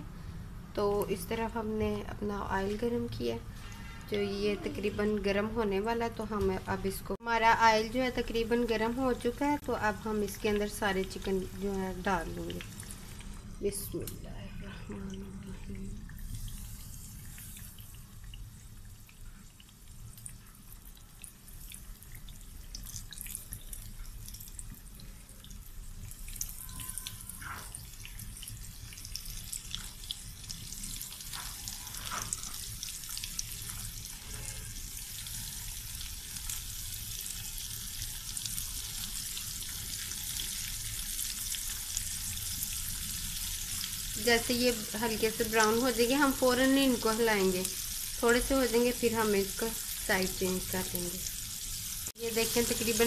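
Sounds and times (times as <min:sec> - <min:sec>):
chicken frying in hot oil: 0:01.0 - 0:53.0.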